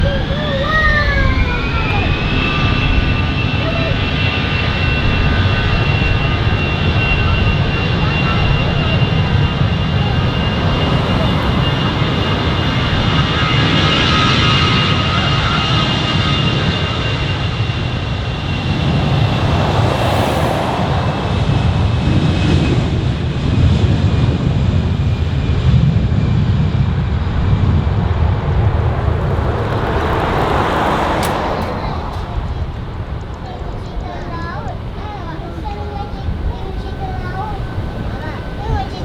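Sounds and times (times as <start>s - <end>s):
high fan whine: 0.0s - 39.0s
jet engine roar: 0.0s - 39.0s.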